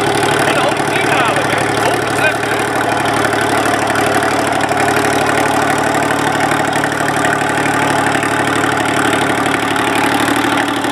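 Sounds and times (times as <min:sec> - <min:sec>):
tractor diesel engine idling: 0:00.0 - 0:10.9.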